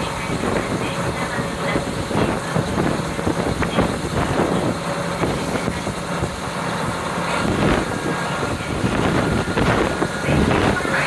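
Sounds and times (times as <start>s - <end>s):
diesel engine drone: 0.0s - 11.0s
train running noise: 0.0s - 11.0s
wind rushing through open window: 0.0s - 11.0s.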